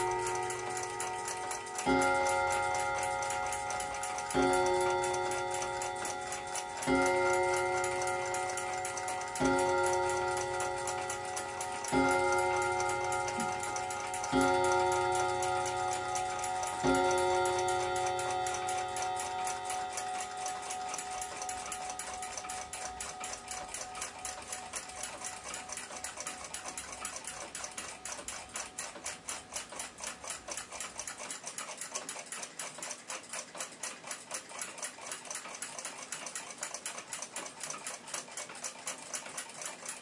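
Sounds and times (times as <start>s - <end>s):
clock chime rods: 0.0s - 40.0s
clock ticking: 0.0s - 40.0s.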